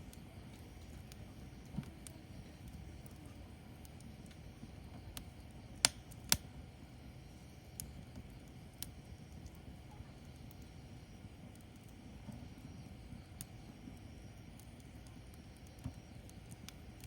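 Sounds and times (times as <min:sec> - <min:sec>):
fire crackling and popping: 0:00.0 - 0:17.0
firewood burning rustle: 0:00.0 - 0:17.0.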